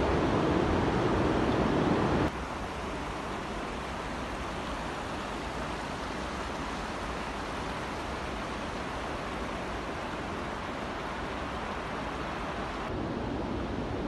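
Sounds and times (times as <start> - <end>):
water rushing over boulders: 0.0 - 14.0.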